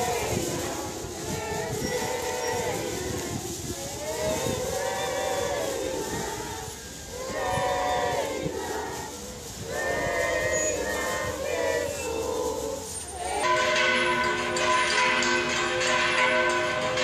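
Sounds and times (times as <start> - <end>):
crowd singing in unison: 0.0 - 17.0.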